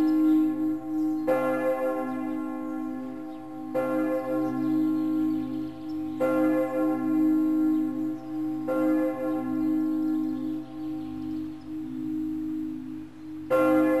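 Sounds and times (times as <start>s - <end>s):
deep bell tolling: 0.0s - 14.0s.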